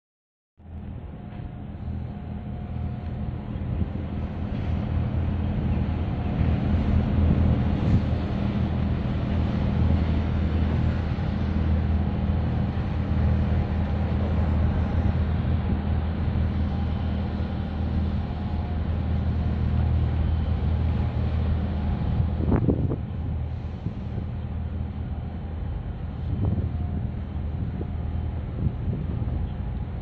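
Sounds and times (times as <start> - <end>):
diesel engines humming: 0.6 - 30.0.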